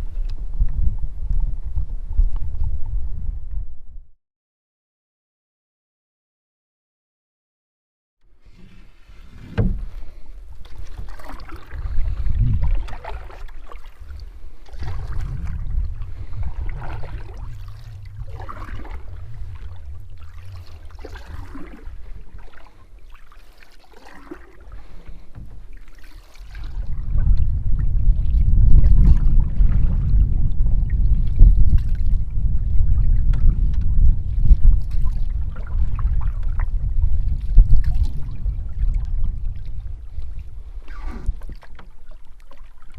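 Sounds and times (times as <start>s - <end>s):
wind buffeting the microphone: 0.0s - 4.1s, 9.3s - 22.9s, 24.6s - 41.8s
paddle strokes swishing through water: 8.3s - 42.9s.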